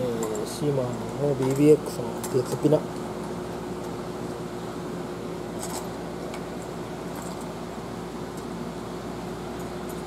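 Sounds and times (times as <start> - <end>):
air conditioner hum: 0.0 - 10.0.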